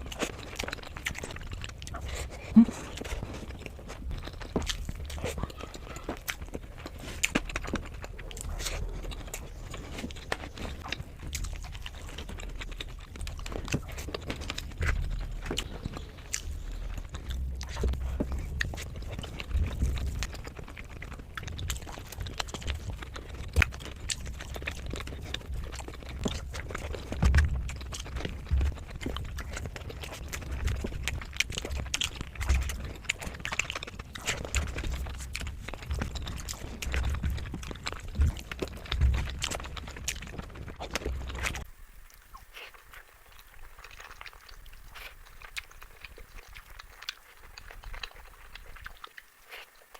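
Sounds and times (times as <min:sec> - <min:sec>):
close chewing and mouth sounds: 0:00.0 - 0:49.9.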